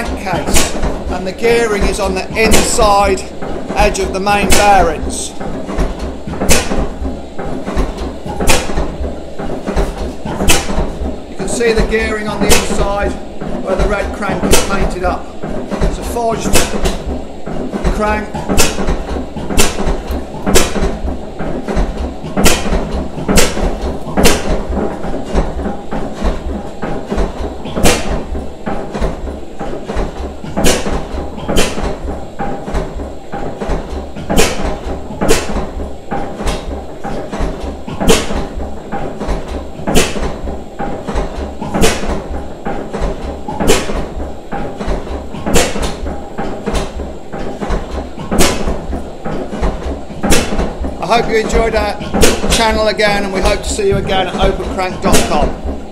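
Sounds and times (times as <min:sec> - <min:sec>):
low mechanical thudding: 0:00.0 - 0:55.9.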